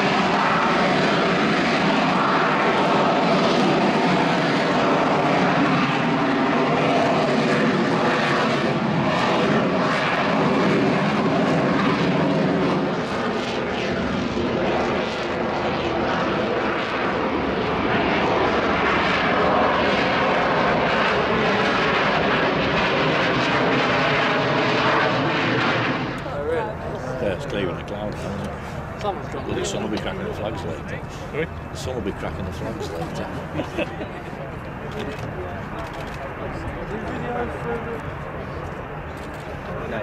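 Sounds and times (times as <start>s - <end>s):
jet engine roaring with whine: 0.0s - 40.0s.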